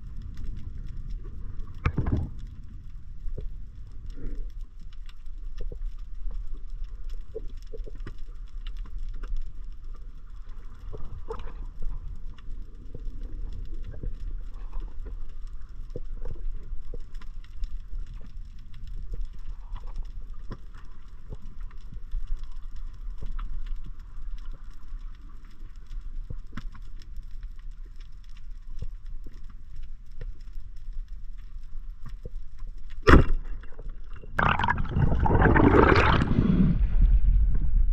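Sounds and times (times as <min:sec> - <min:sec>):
crackling clicks underwater: 0:00.0 - 0:36.5
underwater rumble of moving water: 0:00.0 - 0:37.9.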